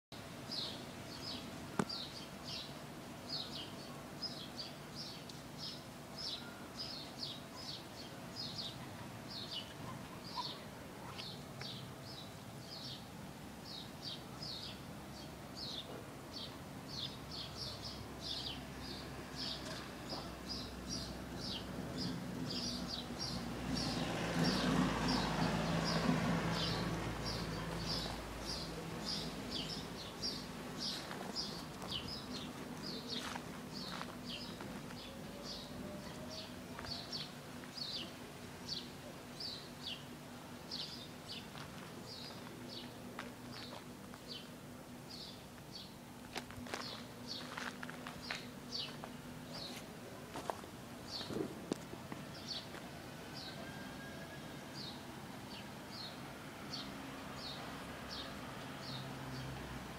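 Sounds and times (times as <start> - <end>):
small birds chirping: 0.5 - 53.6, 54.8 - 59.6.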